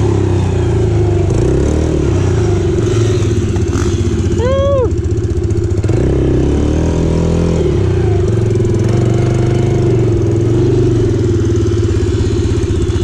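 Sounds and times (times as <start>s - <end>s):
dirt bike engine revving and idling: 0.0s - 13.0s.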